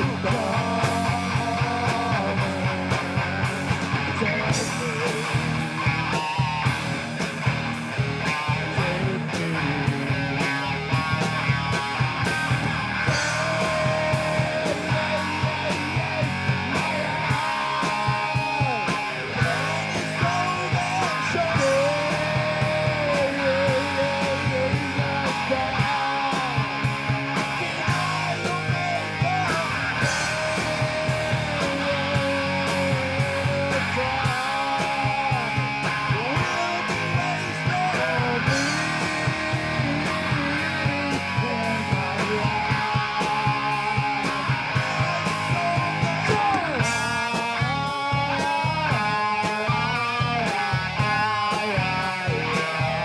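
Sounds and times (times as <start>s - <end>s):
drums keeping steady beat: 0.0s - 53.0s
rock band playing live: 0.0s - 53.0s
wavering lead guitar line: 0.0s - 53.0s.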